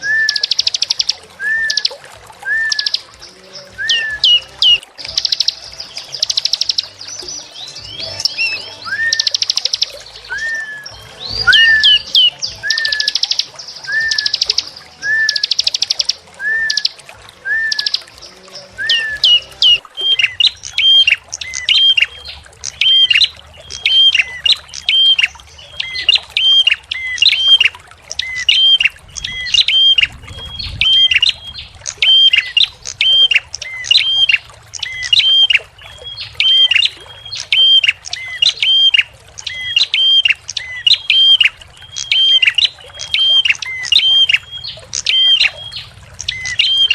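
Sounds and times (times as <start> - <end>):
bird chirps and buzzy trills: 0.0 - 46.9.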